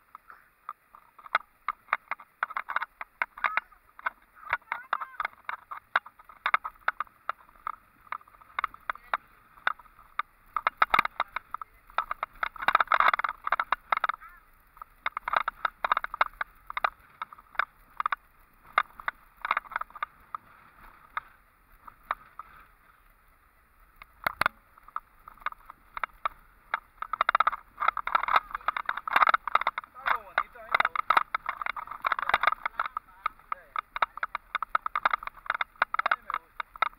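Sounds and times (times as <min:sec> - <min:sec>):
vehicle rattling on rough dirt road: 0:00.0 - 0:36.9.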